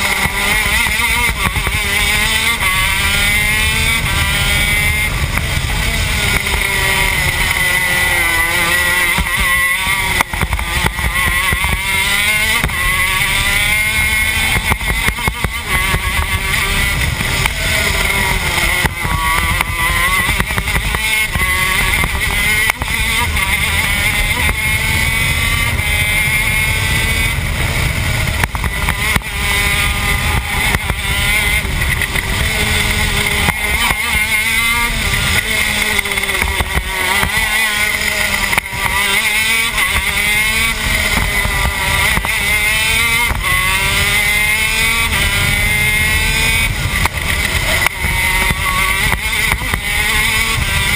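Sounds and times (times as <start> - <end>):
kart engine at racing speed: 0.0 - 50.9.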